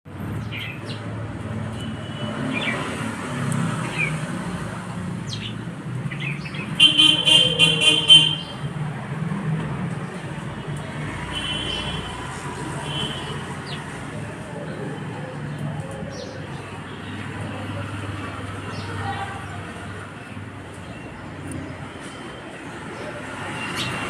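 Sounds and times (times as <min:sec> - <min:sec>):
traffic rumble: 0:00.1 - 0:24.0.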